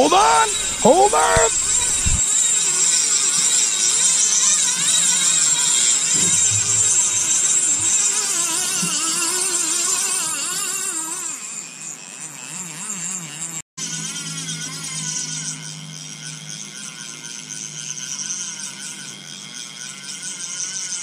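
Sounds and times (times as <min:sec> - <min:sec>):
fishing reel drag buzzing: 0:00.3 - 0:21.0.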